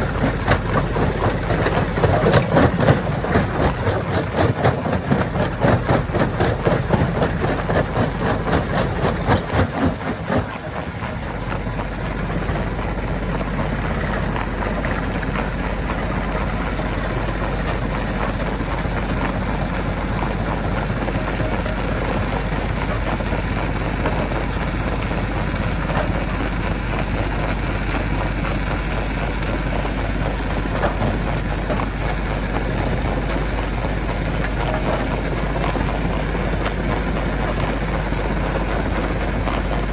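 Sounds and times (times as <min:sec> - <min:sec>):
heavy engine running: 0:00.0 - 0:39.9
rapid rattle of knocks: 0:00.0 - 0:39.9.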